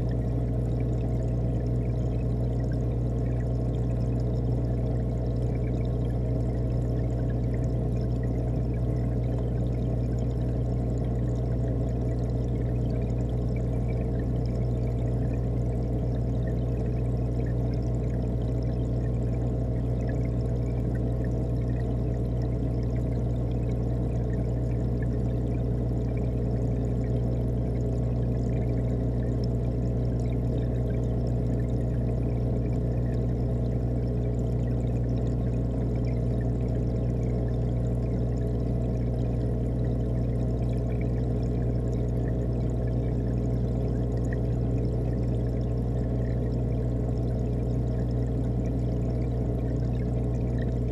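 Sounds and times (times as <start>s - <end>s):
circulating water and bubbles: 0.0s - 50.9s
low hum: 0.0s - 50.9s.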